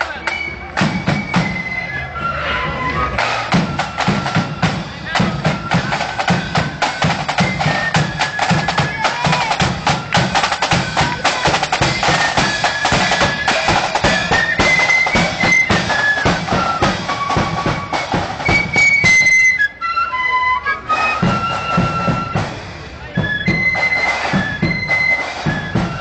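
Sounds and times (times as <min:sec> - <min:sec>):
snare and bass drums: 0:00.0 - 0:01.7, 0:03.2 - 0:19.6, 0:21.1 - 0:26.0
flutes playing in unison: 0:00.0 - 0:26.0.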